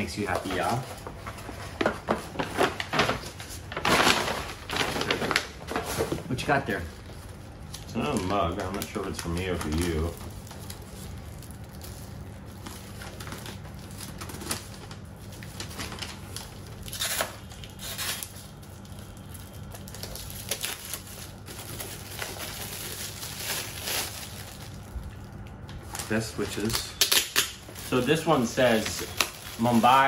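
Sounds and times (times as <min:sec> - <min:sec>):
low steady hum: 0:00.0 - 0:30.0
paper crackles: 0:00.0 - 0:30.0
paper rustling and crinkling: 0:00.0 - 0:30.0.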